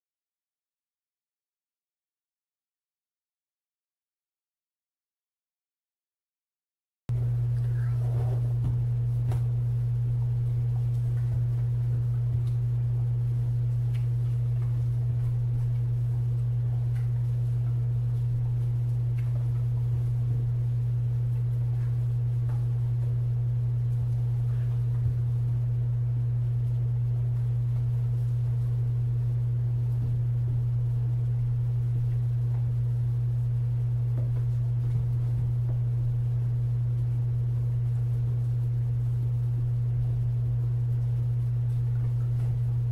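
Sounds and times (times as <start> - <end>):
loud steady low hum: 7.1 - 42.9.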